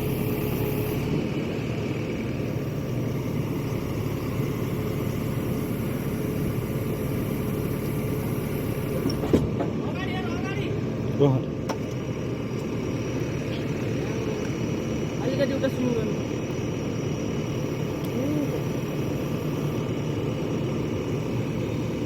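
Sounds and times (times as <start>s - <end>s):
heavy machine engine running: 0.0s - 22.0s.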